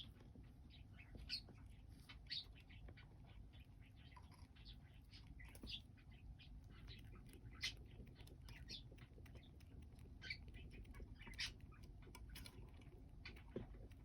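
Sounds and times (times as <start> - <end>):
light clicks and scratching: 0.0 - 14.0
small birds chirping: 0.0 - 14.0.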